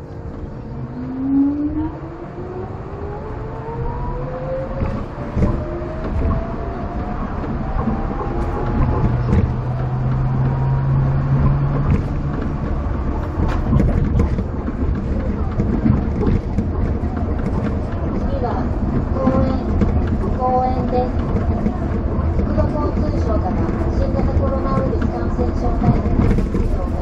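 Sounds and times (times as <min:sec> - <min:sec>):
tyres rumbling on concrete: 0:04.6 - 0:27.0.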